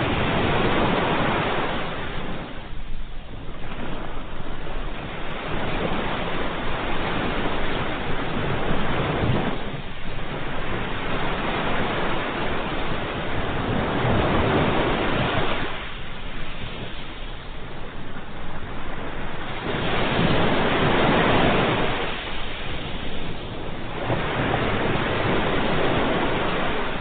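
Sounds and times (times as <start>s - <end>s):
ocean waves breaking: 0.0s - 27.0s.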